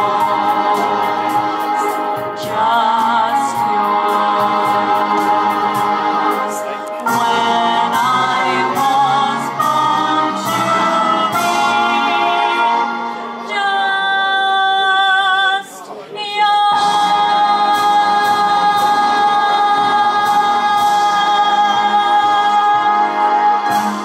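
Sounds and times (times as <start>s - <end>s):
woman singing into a microphone: 0.0s - 24.0s.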